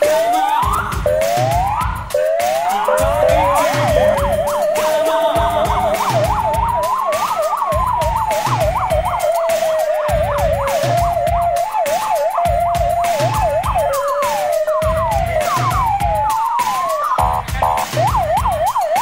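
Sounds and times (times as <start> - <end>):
police siren wailing: 0.0 - 19.0
police siren yelping: 0.0 - 19.0
thumping music beat: 0.0 - 19.0.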